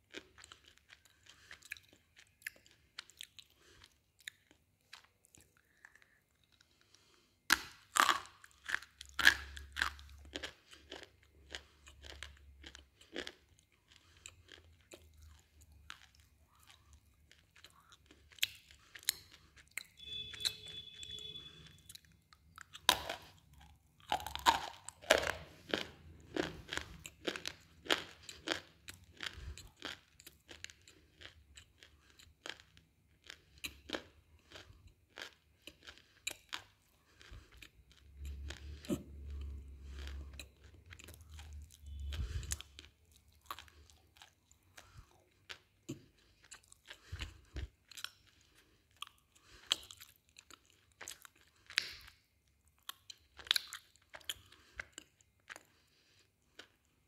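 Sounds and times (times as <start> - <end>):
crunching and chewing slate pieces: 0.0 - 57.0.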